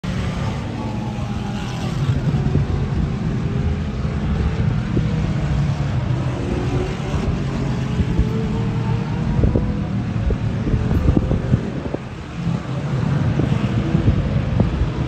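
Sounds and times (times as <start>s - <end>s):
race car engines rumbling: 0.0s - 15.0s.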